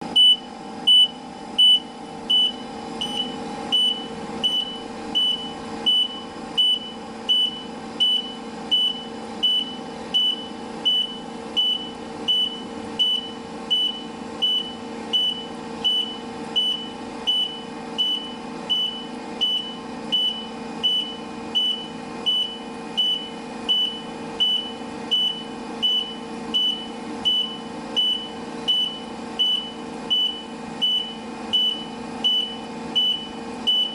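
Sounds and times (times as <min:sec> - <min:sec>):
truck reversing alarm beeps: 0:00.1 - 0:33.9.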